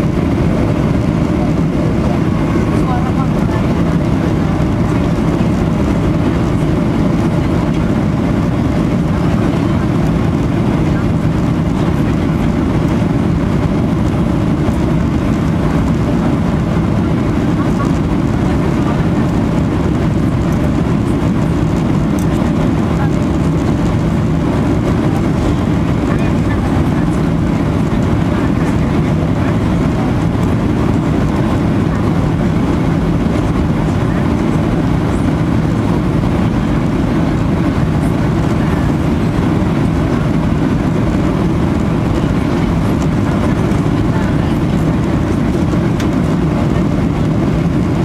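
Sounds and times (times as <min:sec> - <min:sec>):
aircraft engines rumbling: 0:00.0 - 0:48.0.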